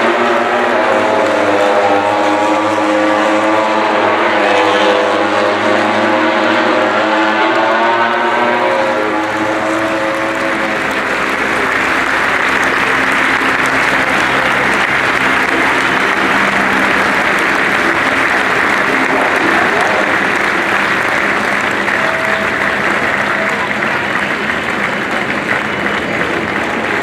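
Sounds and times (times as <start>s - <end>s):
motorcycle engine: 0.0s - 23.7s
crowd applauding: 0.0s - 27.0s.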